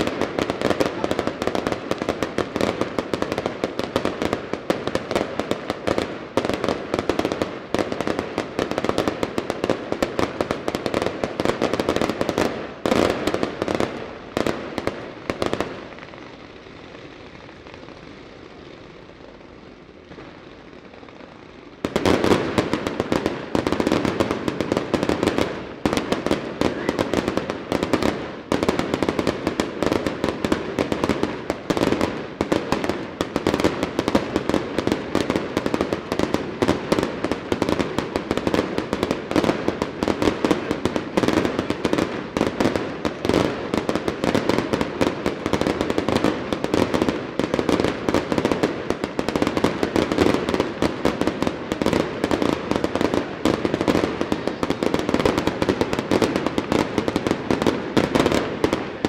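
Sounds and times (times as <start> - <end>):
fireworks barrage bangs: 0.0 - 16.3, 21.8 - 59.0.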